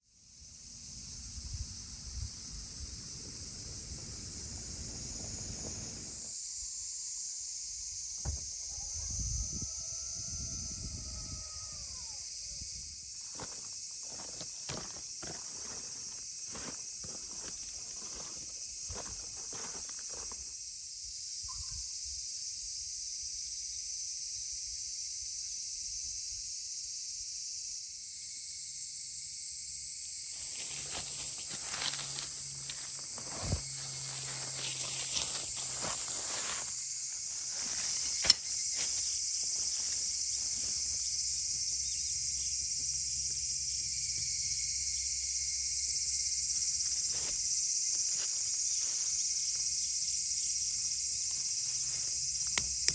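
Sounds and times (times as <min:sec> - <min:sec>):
crickets chirping: 0:00.0 - 0:52.9.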